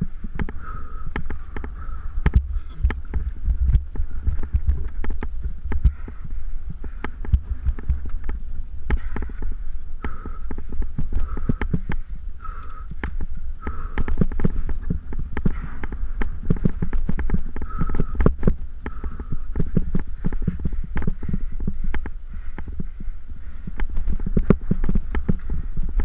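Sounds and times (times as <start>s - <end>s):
bike knocking and rattling: 0.0s - 26.0s
wind rumble on microphone: 0.0s - 26.0s.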